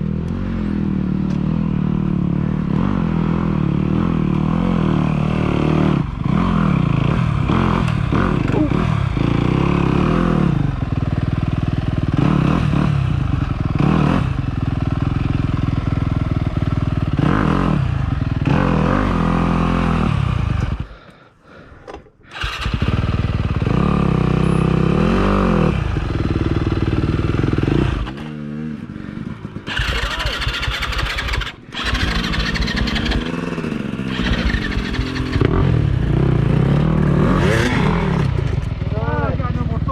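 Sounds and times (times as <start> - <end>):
dirt bike engine revving: 2.0 - 15.3, 16.6 - 20.9, 22.3 - 28.6, 29.2 - 39.9.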